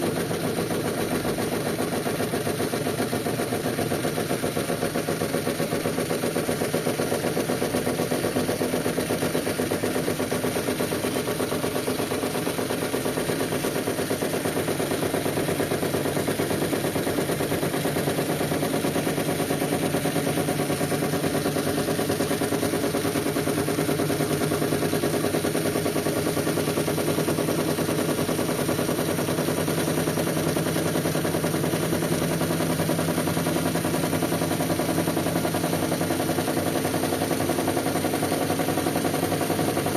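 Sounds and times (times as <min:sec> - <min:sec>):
washing machine spinning: 0:07.5 - 0:39.9.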